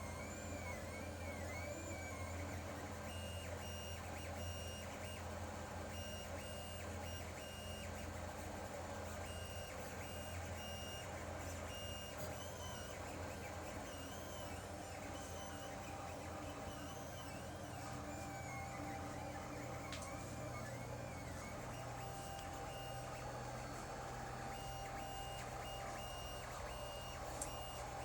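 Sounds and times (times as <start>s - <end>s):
stepper motors whining: 0.0s - 28.0s.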